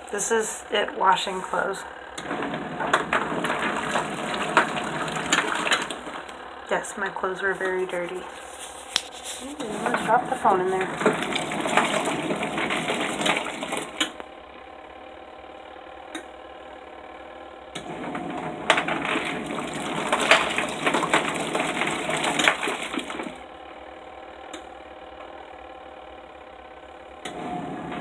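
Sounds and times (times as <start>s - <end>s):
washing machine churning water: 0.0s - 17.1s, 17.7s - 24.0s, 27.2s - 28.0s.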